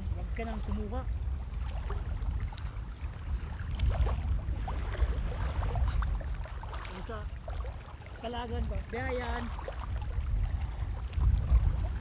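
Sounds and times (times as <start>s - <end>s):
feet wading through water: 0.0s - 12.0s
wind rumbling on microphone: 0.0s - 12.0s.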